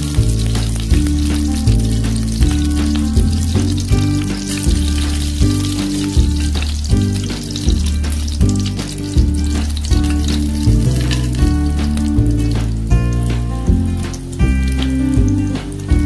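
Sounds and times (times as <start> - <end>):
background music with steady beat: 0.0 - 16.0
hot oil sizzling and crackling: 0.0 - 16.0.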